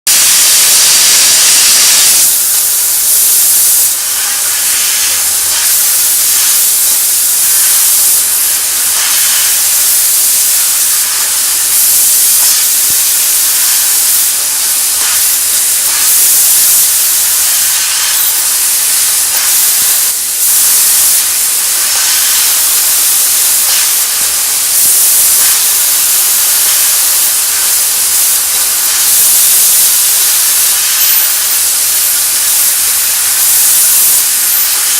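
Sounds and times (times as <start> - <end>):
laser cutter gas jet hissing: 0.1 - 34.9.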